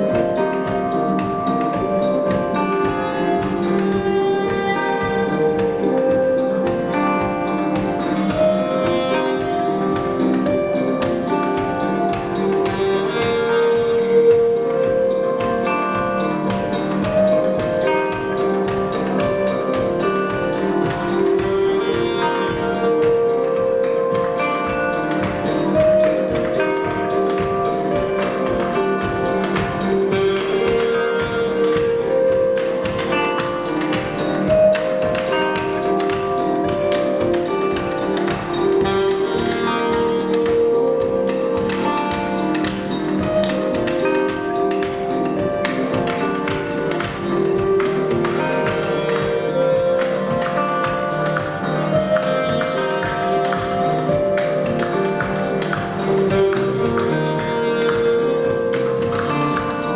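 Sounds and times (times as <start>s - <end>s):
band playing live: 0.0s - 59.9s.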